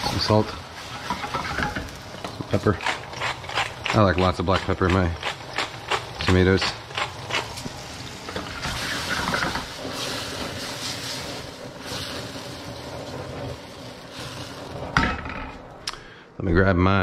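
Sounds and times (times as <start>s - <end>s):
sauce sizzling in a pan: 0.0s - 15.6s.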